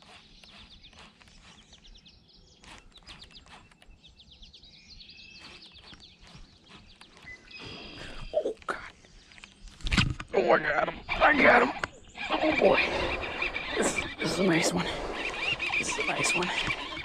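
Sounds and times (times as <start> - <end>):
small birds trilling: 0.0 - 17.0.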